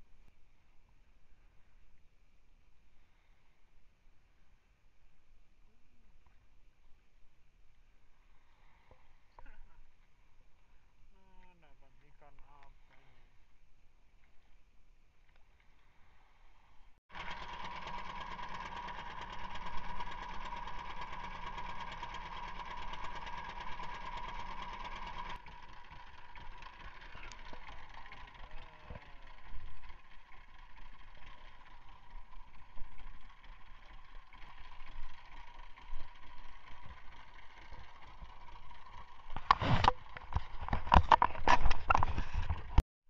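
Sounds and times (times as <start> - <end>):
boat engine humming: 0.0 - 42.8.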